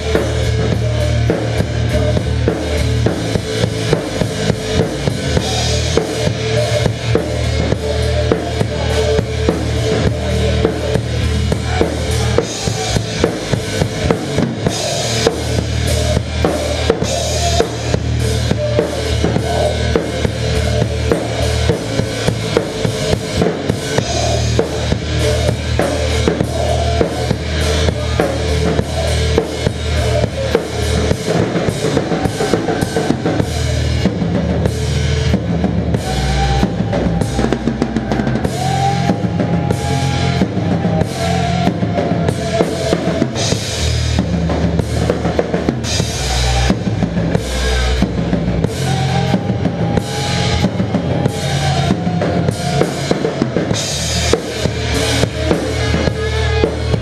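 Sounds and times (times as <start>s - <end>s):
drum kit playing a beat: 0.0s - 57.0s
held low notes: 0.0s - 57.0s.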